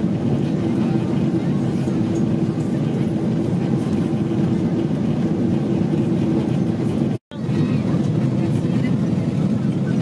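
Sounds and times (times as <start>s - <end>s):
airplane engine and airflow noise: 0.0s - 10.0s.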